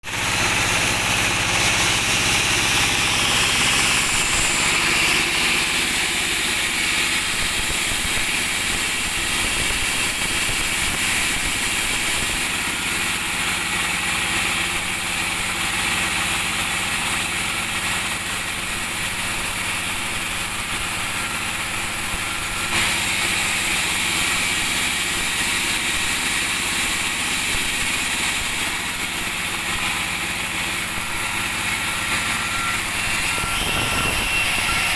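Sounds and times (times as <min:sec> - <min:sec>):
chainsaw engine running: 0:00.0 - 0:34.9.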